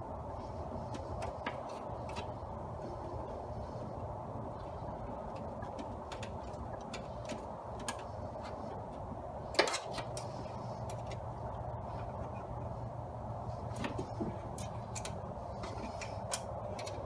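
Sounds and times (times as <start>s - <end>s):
steady background hum: 0.0s - 17.0s
light clicks on metal parts: 0.4s - 12.7s, 13.4s - 17.0s.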